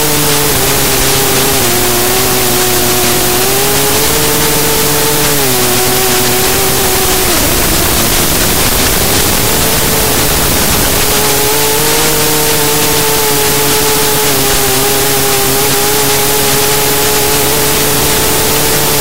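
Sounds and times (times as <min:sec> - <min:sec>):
drone motors whining: 0:00.0 - 0:19.0
rushing wind noise: 0:00.0 - 0:19.0.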